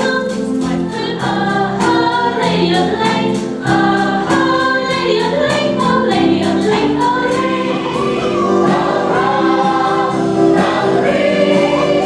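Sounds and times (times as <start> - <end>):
voices singing long held notes: 0.0 - 12.0.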